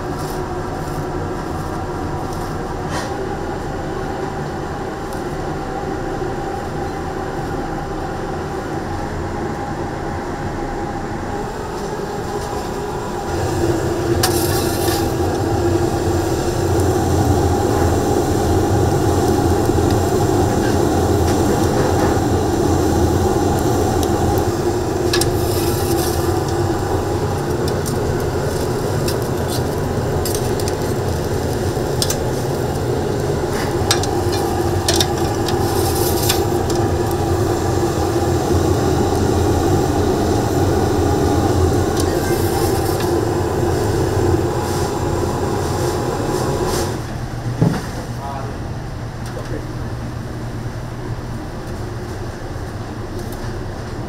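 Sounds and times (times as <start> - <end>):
steady mechanical roar: 0.0 - 54.0.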